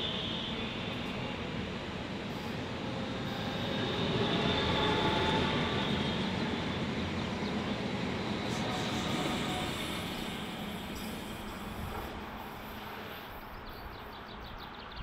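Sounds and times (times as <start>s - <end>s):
train wheels rumbling on rail: 0.0s - 14.6s.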